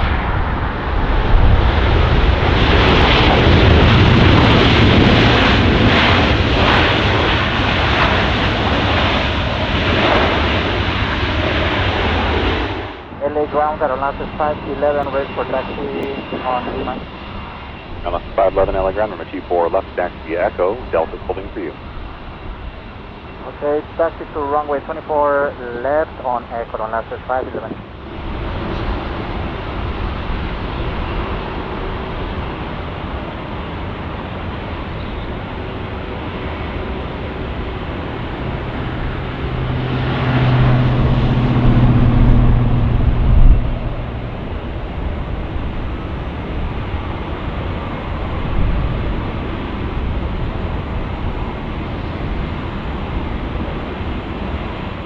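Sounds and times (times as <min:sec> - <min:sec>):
engine and traffic rumble: 0:00.0 - 0:55.0.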